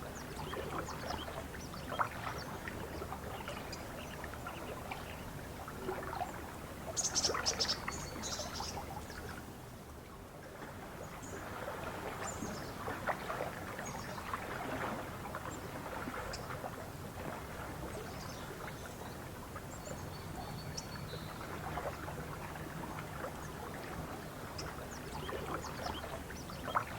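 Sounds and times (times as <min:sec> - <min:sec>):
water lapping on shore: 0:00.0 - 0:26.9.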